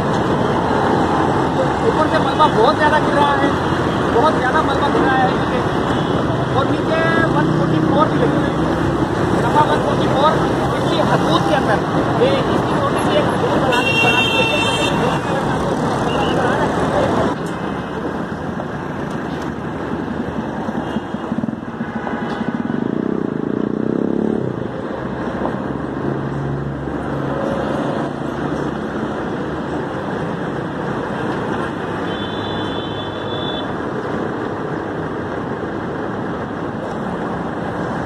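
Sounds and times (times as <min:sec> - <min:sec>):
busy road traffic: 0:00.0 - 0:38.0.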